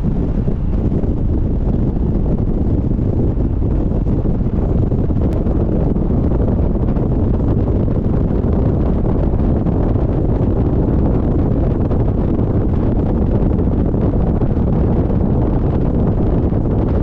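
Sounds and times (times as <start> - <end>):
car road and engine noise: 0.0 - 17.0
wind buffeting microphone: 0.0 - 17.0.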